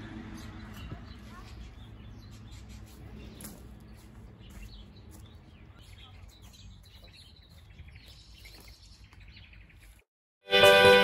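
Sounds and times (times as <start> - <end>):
birds chirping: 0.0 - 10.1.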